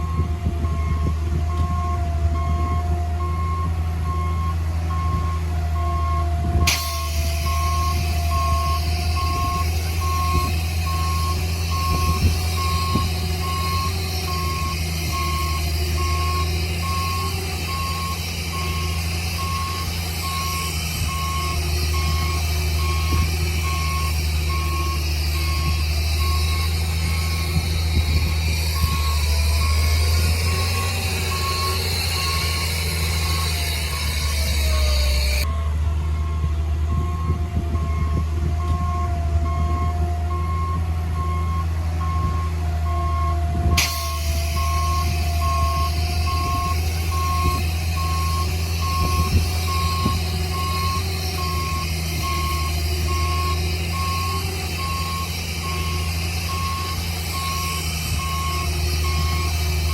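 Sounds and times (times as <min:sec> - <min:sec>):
diesel engine running: 0:00.0 - 0:59.9
reversing alarm beeping: 0:00.0 - 0:59.9.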